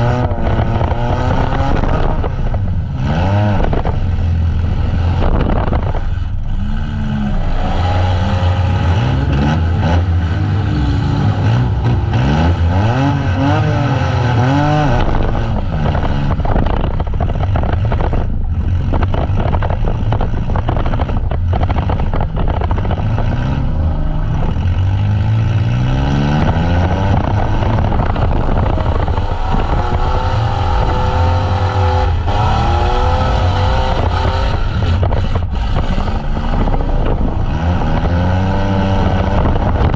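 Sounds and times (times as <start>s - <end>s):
van engines revving hard: 0.0s - 39.9s.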